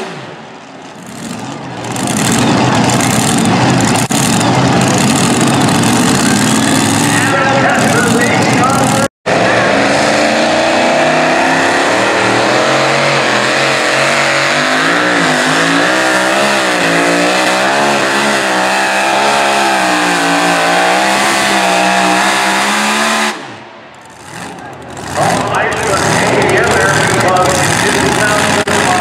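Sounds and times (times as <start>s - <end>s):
supercharged truck engine roaring: 0.0s - 29.0s.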